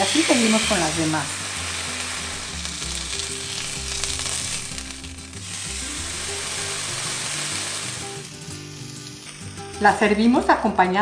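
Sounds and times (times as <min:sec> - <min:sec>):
chicken sizzling in oil: 0:00.0 - 0:10.4.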